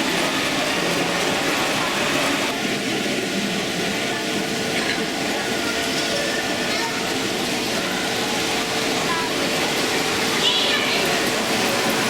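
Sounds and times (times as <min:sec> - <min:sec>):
exhibition hall hubbub: 0:00.0 - 0:12.0
model trains running: 0:00.0 - 0:12.0.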